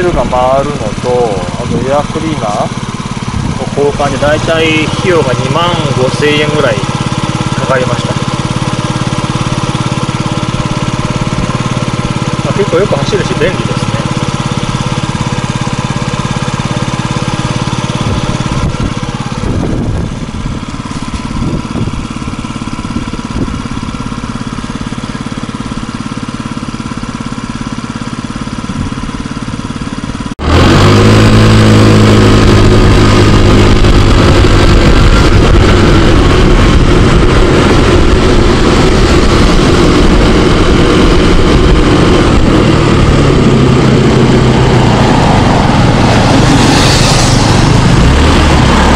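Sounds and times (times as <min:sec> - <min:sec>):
road and wind noise: 0:00.0 - 0:48.9
scooter engine idling: 0:00.0 - 0:48.9
scooter engine under way: 0:00.0 - 0:48.9.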